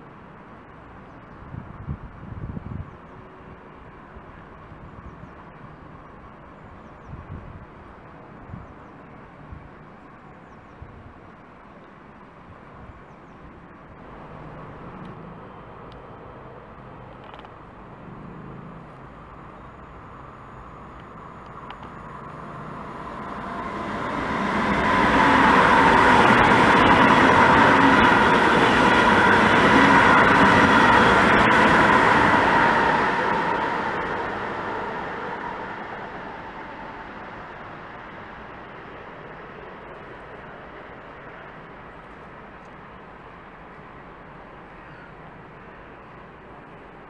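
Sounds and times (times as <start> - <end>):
high-speed train passing: 0.0 - 47.0.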